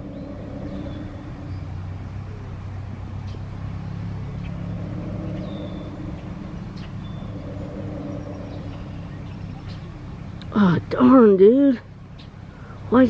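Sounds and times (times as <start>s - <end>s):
engine humming: 0.0s - 13.0s
high bird calls: 0.0s - 13.0s.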